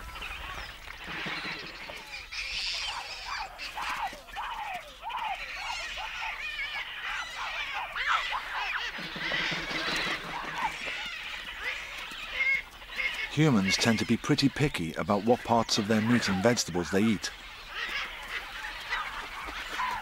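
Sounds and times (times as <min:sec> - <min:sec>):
baboons screaming and squealing: 0:00.0 - 0:20.0.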